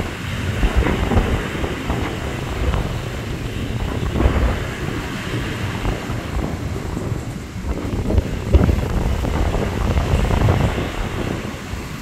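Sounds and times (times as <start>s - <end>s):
choppy surf: 0.0s - 12.0s
wind buffeting microphone: 0.0s - 12.0s.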